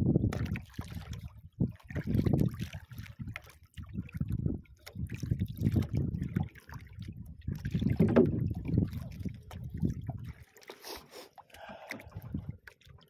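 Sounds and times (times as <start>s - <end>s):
water slapping against a boat hull: 0.0s - 13.0s.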